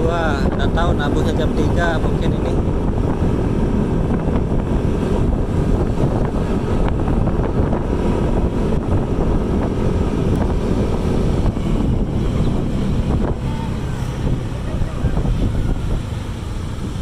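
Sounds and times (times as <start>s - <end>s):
vehicle engine running: 0.0s - 17.0s
wind rumble on microphone: 0.0s - 17.0s.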